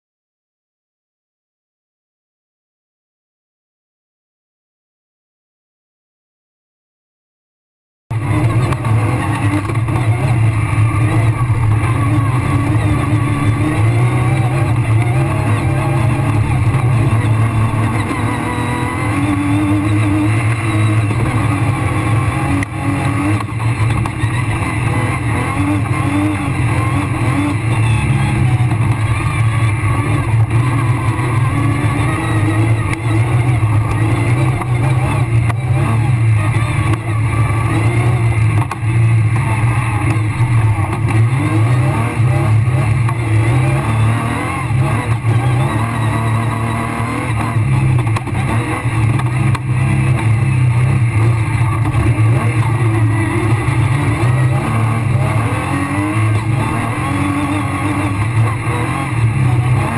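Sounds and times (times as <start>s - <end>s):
car engine revving: 8.1s - 59.9s.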